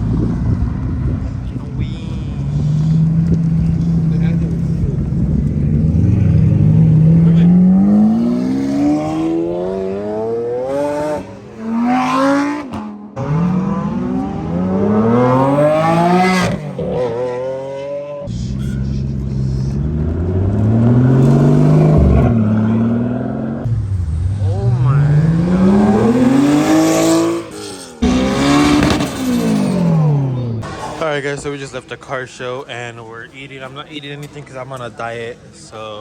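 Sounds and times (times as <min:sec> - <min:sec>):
supercar engines accelerating: 0:00.0 - 0:31.0.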